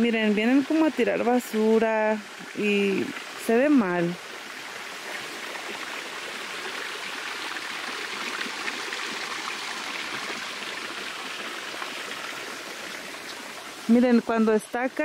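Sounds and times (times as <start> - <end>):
creek water trickling over stones: 0.0 - 15.0.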